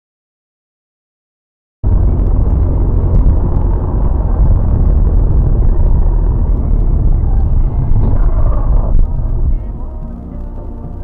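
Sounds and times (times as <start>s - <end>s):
car engine and road noise: 1.8s - 11.0s.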